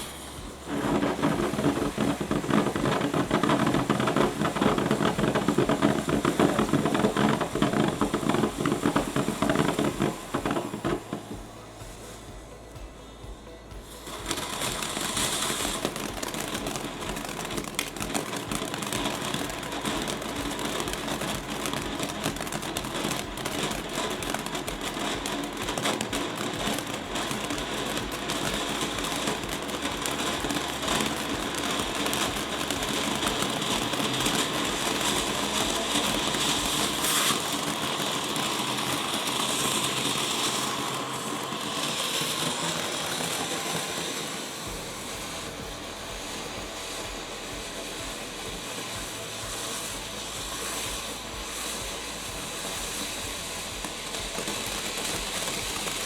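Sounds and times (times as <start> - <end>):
firework fountain hissing: 0.0 - 56.0.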